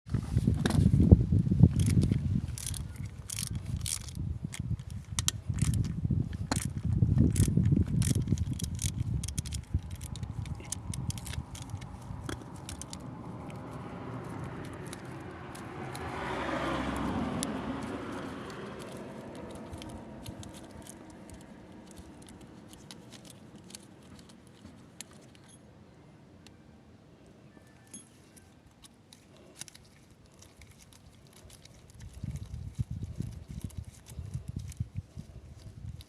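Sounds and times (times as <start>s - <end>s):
metal clicks and scrapes: 1.7s - 25.6s, 27.9s - 36.0s.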